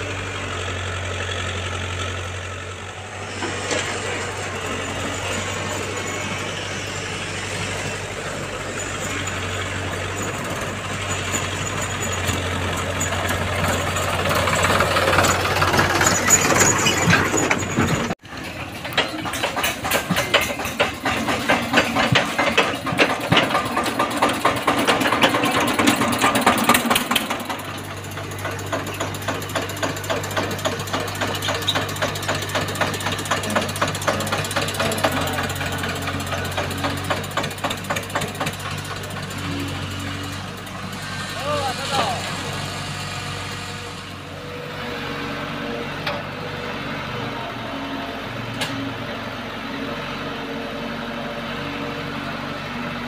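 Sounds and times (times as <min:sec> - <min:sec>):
diesel tractor engine passing: 0:00.0 - 0:53.0
tractor engine clattering: 0:00.0 - 0:53.0.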